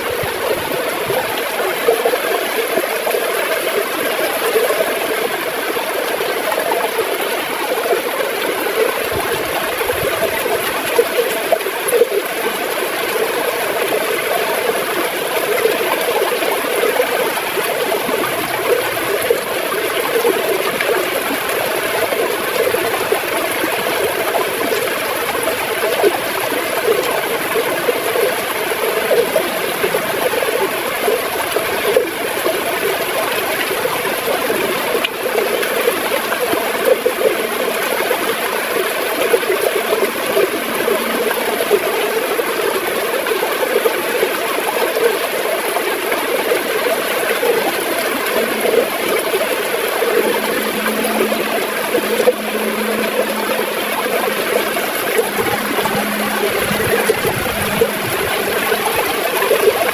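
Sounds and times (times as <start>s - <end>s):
river water gurgling and flowing: 0.0s - 59.9s.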